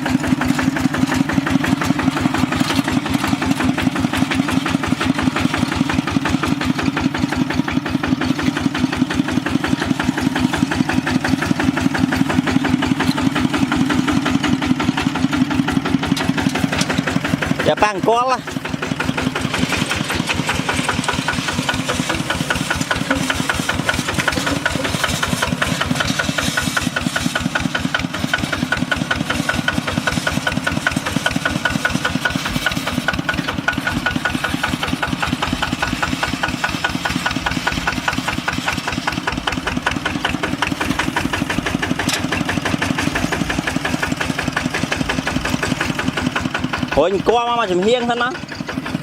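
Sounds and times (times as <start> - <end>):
diesel engine chugging: 0.0 - 49.0.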